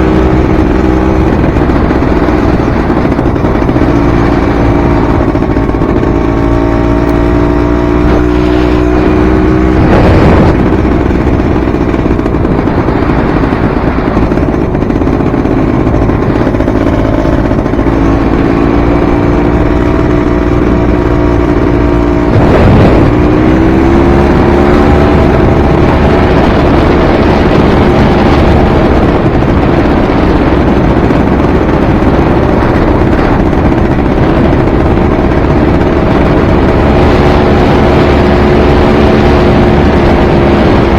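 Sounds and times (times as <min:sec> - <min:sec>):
dirt bike engine revving: 0:00.0 - 0:40.9
low rumbling noise: 0:00.0 - 0:40.9.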